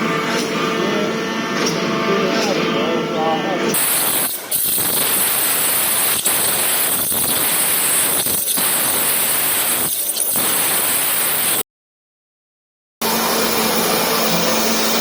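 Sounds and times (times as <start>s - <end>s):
waterjet cutter hissing: 0.0s - 11.6s, 13.0s - 15.0s.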